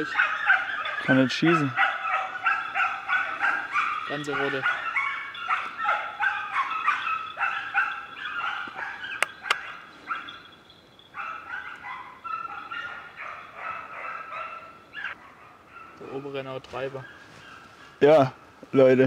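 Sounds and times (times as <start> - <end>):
hounds barking and baying: 0.0 - 18.6.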